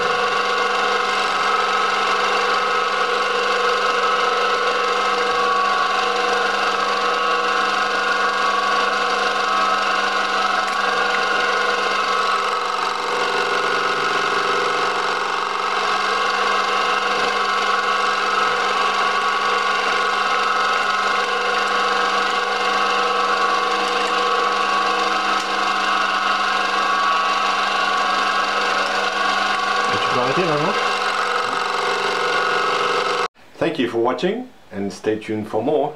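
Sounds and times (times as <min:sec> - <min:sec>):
milling machine motor whine: 0:00.0 - 0:33.3.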